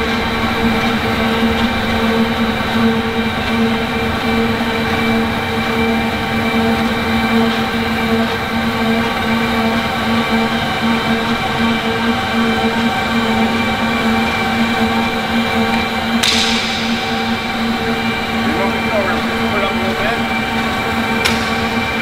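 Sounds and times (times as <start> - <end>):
floor grinder humming: 0.0 - 22.0.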